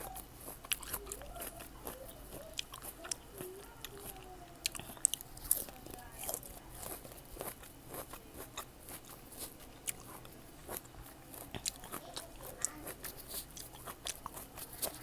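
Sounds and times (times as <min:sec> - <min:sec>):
biting and chewing fruit: 0:00.0 - 0:15.0.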